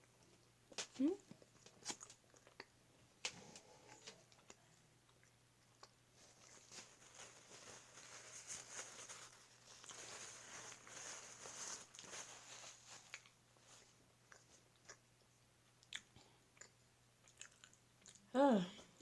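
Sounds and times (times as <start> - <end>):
close-up chewing: 0.0 - 8.4, 11.4 - 18.3.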